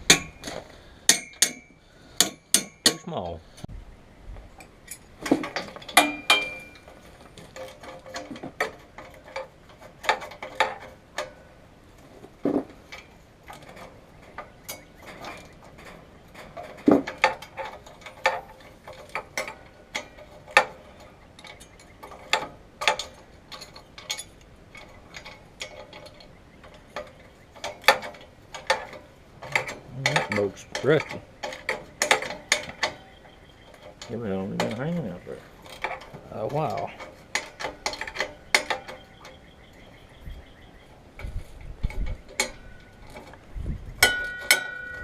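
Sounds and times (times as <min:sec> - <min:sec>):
hand tools clinking on metal: 0:00.0 - 0:03.4, 0:04.6 - 0:11.6, 0:12.8 - 0:40.0, 0:44.0 - 0:45.0.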